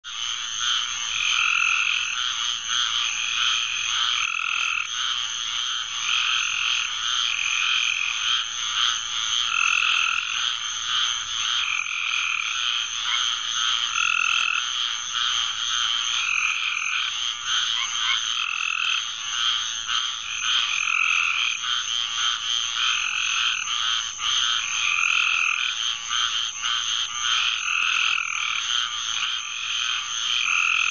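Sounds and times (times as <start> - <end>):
frogs calling: 0.0 - 30.9.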